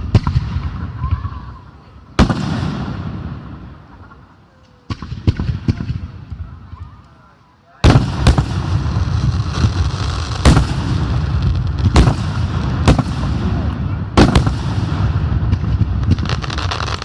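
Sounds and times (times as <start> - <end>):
fireworks bangs: 0.0 - 6.9, 7.8 - 17.0
fireworks crackling and rumbling: 0.0 - 17.0.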